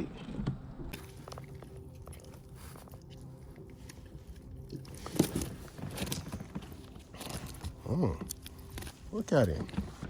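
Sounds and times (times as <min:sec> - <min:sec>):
low steady hum: 0:00.0 - 0:10.0
handling clicks and rustles: 0:00.9 - 0:10.0.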